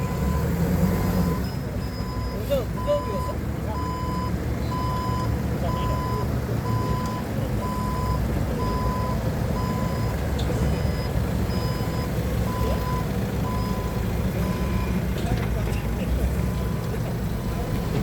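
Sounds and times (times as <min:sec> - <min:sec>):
reversing alarm beeping: 0:00.0 - 0:15.0
forklift engine running: 0:00.0 - 0:18.0.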